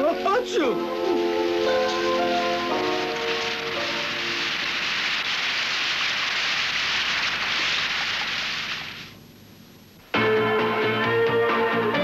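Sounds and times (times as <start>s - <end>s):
steady hiss: 0.0s - 10.2s.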